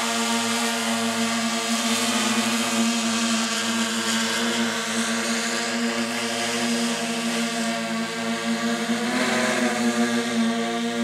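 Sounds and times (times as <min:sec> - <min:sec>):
motor running steadily: 0:00.0 - 0:11.0.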